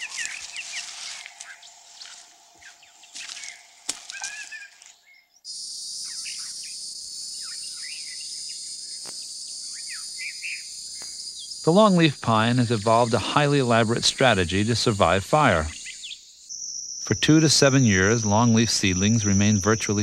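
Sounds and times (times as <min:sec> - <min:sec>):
birds chirping: 0:00.0 - 0:20.0
high-pitched insect chorus: 0:00.0 - 0:20.0.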